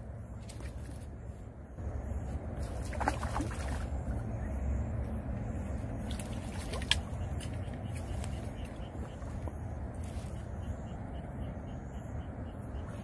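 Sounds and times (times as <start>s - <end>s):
water splashing and sloshing: 0.0s - 11.3s, 12.1s - 13.0s
steady low rumble: 0.0s - 13.0s.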